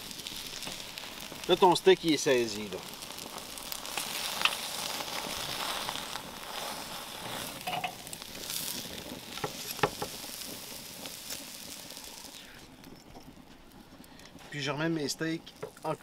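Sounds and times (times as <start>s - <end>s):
sharp crackles: 0.0s - 16.0s
steaks sizzling: 0.0s - 16.0s.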